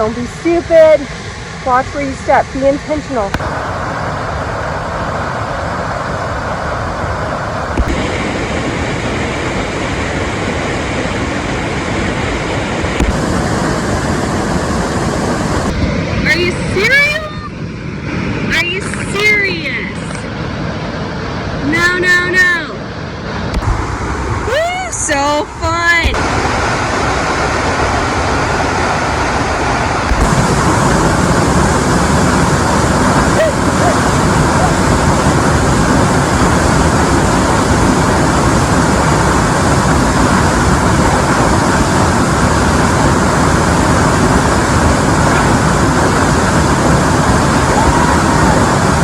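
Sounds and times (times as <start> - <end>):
waterfall roaring: 0.0 - 49.0.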